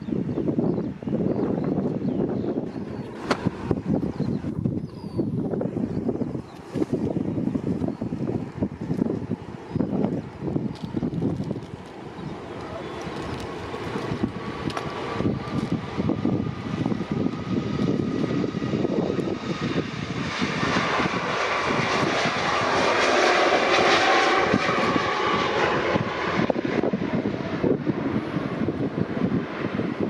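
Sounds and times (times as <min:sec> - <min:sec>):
jet engines passing: 0:00.0 - 0:30.0.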